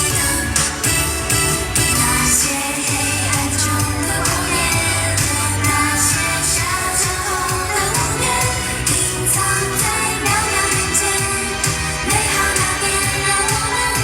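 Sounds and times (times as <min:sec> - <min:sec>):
bass: 0:00.0 - 0:14.0
drum and cymbal beat: 0:00.0 - 0:14.0
women singing pop song: 0:00.0 - 0:14.0.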